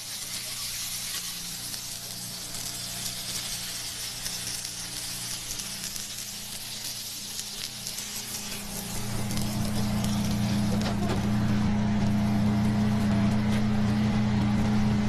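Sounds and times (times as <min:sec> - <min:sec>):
burgers sizzling on griddle: 0:00.0 - 0:15.0
steady low hum: 0:01.0 - 0:15.0.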